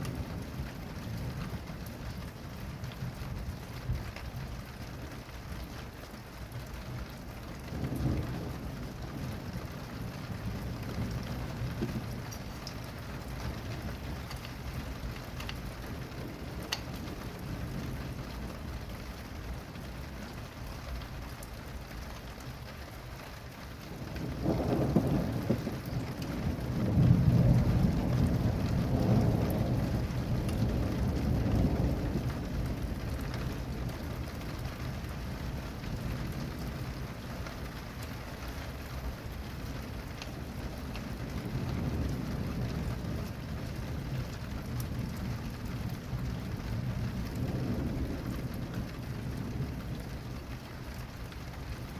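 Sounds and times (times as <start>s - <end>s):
thunder rumbling: 0.0s - 22.6s, 23.4s - 51.9s
steady rain falling: 0.0s - 51.9s.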